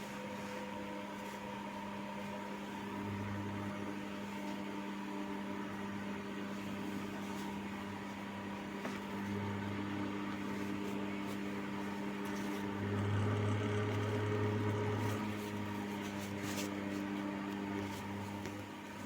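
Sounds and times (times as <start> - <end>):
electric fan motor hum: 2.1 - 19.0.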